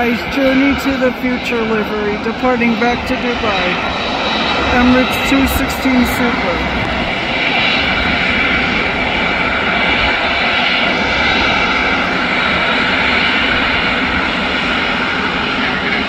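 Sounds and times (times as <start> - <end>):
high jet whine: 0.0 - 16.0
jet engine roar: 0.0 - 16.0.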